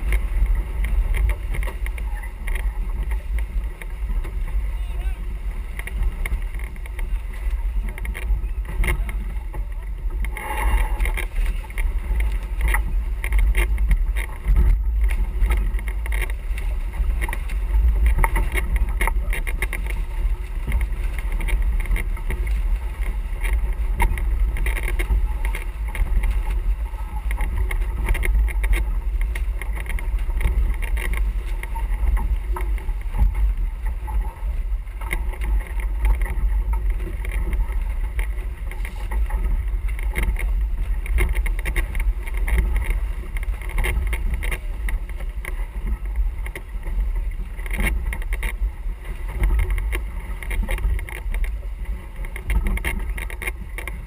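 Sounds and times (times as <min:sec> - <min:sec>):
water rushing along a hull: 0:00.0 - 0:54.0
wind buffeting microphone: 0:00.0 - 0:54.0.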